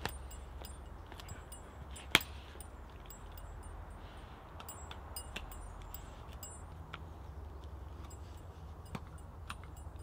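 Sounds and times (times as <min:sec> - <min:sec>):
dog tags clinking: 0:00.0 - 0:04.0, 0:04.6 - 0:07.1, 0:08.0 - 0:10.0.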